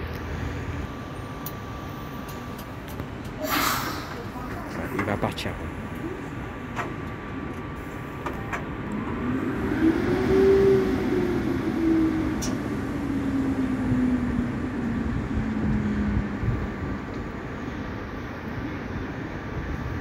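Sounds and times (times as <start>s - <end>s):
electric train traction whine: 0.0s - 20.0s
train running rumble: 0.0s - 20.0s.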